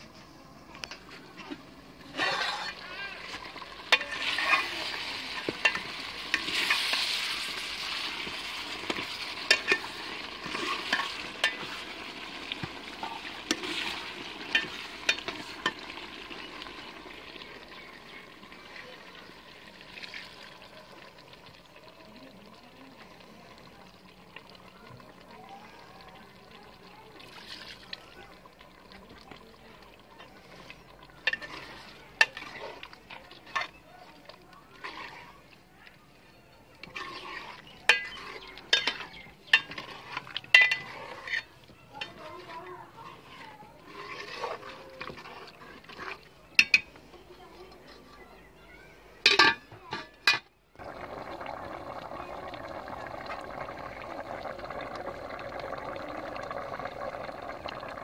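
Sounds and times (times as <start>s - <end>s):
potatoes sizzling in a pot: 0.0s - 58.0s.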